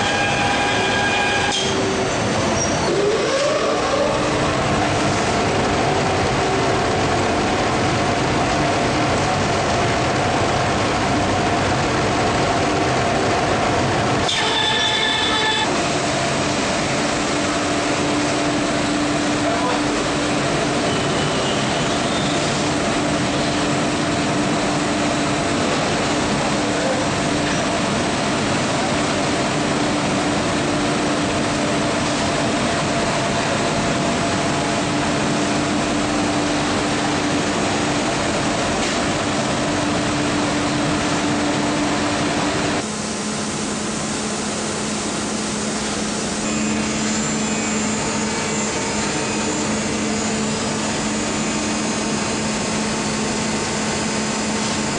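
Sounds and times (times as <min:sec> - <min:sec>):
industrial laundry machinery running: 0:00.0 - 0:54.9.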